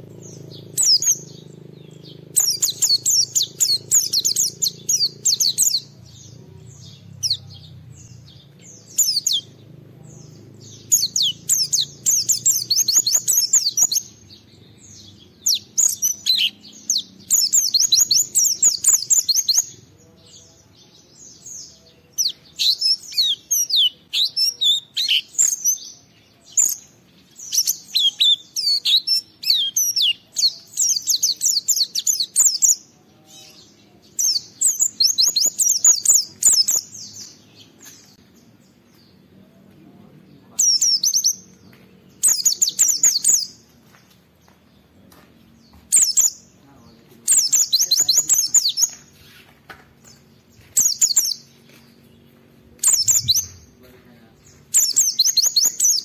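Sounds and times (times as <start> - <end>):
bird twittering song: 0.0 - 56.0.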